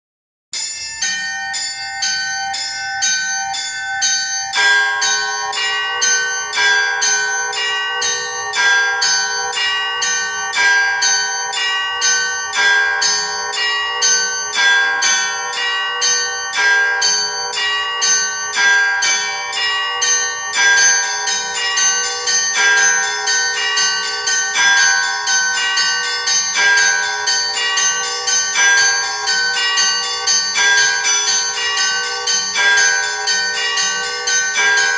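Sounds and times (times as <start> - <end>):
large low bell ringing: 0.6 - 34.9
small bells ringing: 0.6 - 34.9.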